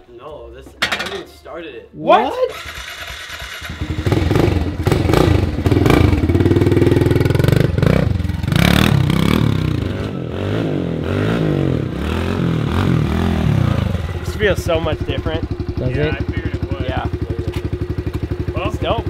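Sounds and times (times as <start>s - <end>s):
motorbike engine revving: 2.5s - 19.0s.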